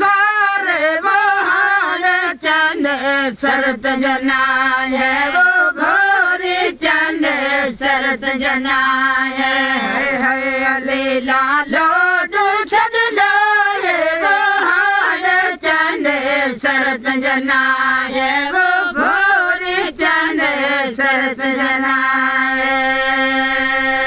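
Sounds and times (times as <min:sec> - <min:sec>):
women singing folk song: 0:00.0 - 0:24.0.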